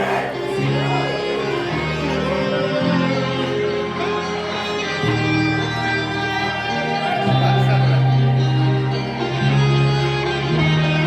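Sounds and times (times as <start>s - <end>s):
guitar-led music over a pa: 0.0s - 11.0s.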